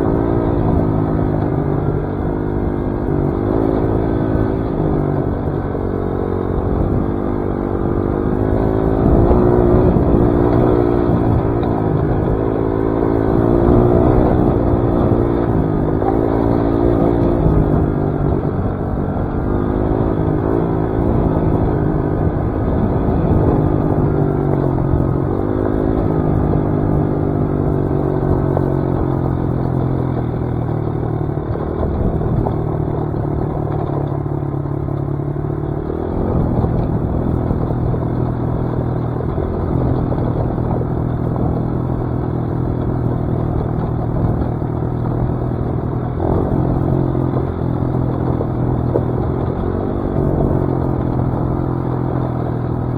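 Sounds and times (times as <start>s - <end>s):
dirt bike engine running: 0.0s - 52.9s.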